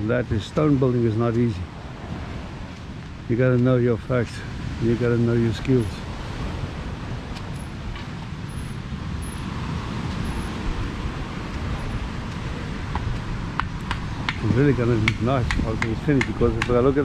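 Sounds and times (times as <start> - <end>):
low outdoor rumbling: 0.0 - 17.0.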